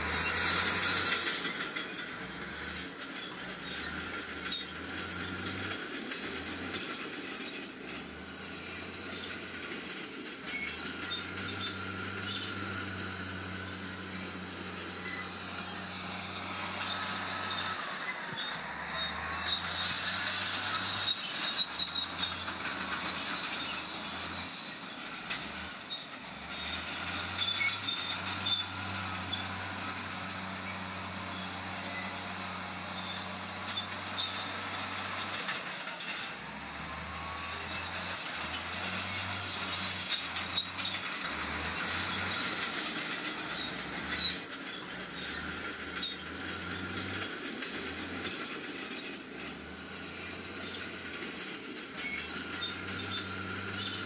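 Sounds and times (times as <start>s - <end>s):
bulldozer engine running: 0.0s - 54.0s
steel tracks squealing: 0.0s - 54.0s.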